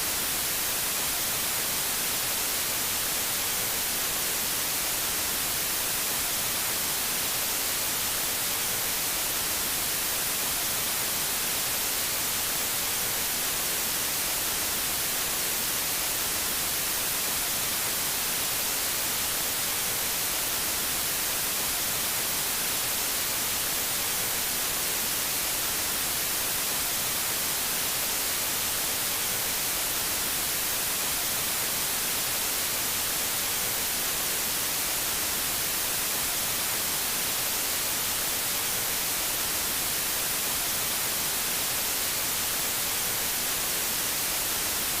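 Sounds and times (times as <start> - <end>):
tv static hiss: 0.0 - 45.0.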